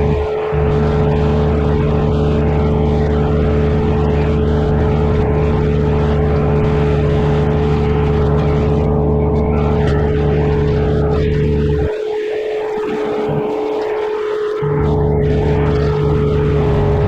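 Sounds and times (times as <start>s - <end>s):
earthmoving machine engine droning: 0.0s - 17.0s.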